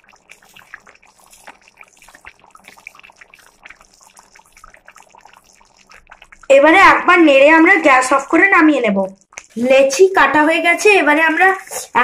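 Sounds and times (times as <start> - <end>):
curry bubbling and popping: 0.0 - 12.0.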